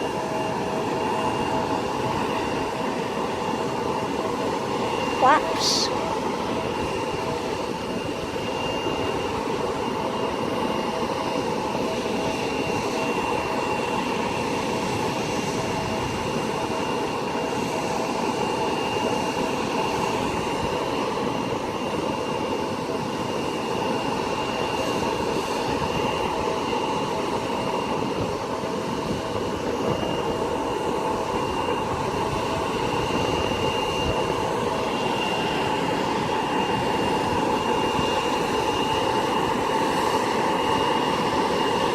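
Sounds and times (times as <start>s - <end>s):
jet engine whine and rush: 0.0s - 41.9s.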